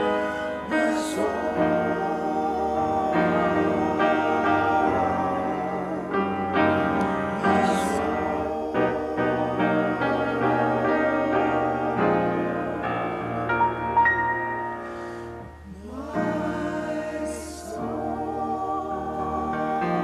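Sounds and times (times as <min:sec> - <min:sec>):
church choir singing: 0:00.0 - 0:20.0.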